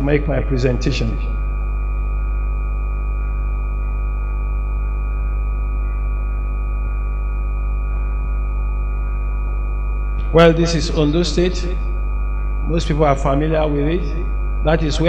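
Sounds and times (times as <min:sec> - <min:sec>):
electrical hum: 0:00.0 - 0:15.0
thin high whine: 0:00.0 - 0:15.0.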